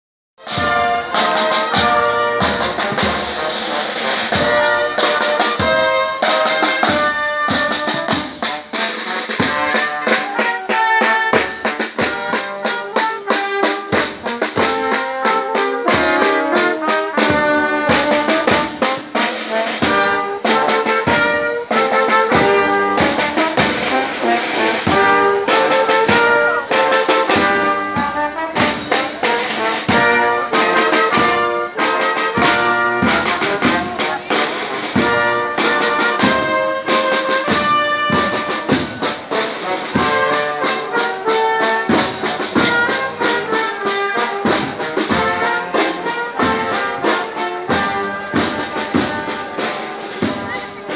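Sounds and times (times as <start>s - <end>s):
brass band playing: 0.4s - 50.9s
drum beats: 0.4s - 50.9s.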